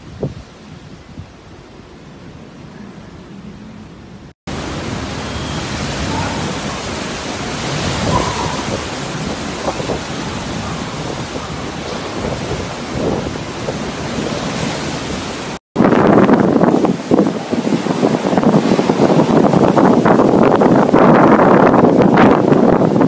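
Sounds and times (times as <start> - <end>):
heavy rain in strong wind: 0.0 - 23.0.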